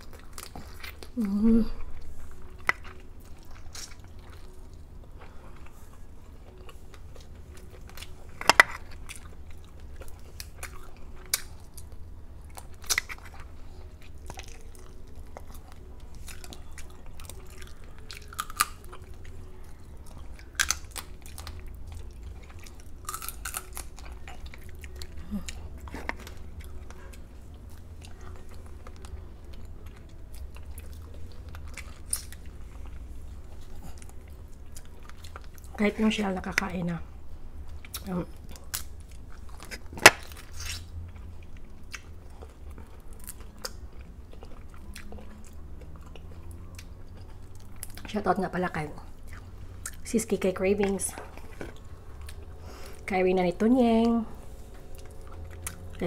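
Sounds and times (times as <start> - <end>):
chewing and biting: 0.0 - 35.8, 37.6 - 48.2, 49.0 - 50.2, 50.8 - 53.1, 54.0 - 56.0
faint steady hum: 0.0 - 56.0.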